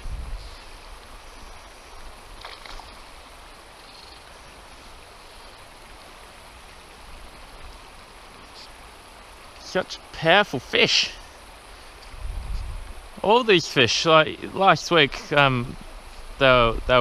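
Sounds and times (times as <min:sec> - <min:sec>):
river running over stones: 0:00.0 - 0:12.2, 0:12.8 - 0:17.0.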